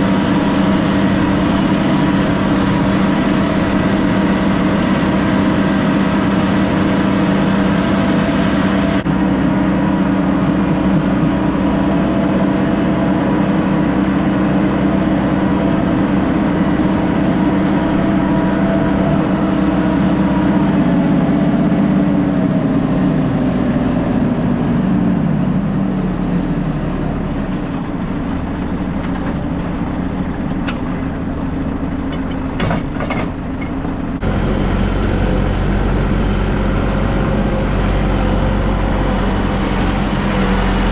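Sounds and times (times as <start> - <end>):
manure spreader running: 0.0 - 26.3, 27.1 - 40.9
tractor engine drone: 0.0 - 40.9.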